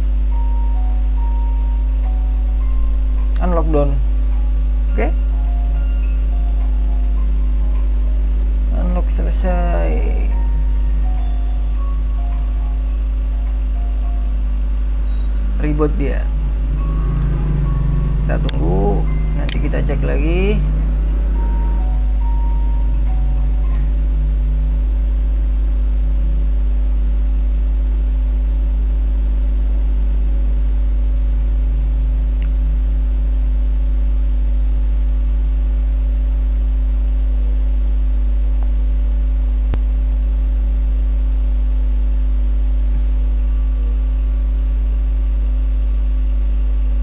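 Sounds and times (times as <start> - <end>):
mains hum: 0.0 - 47.0.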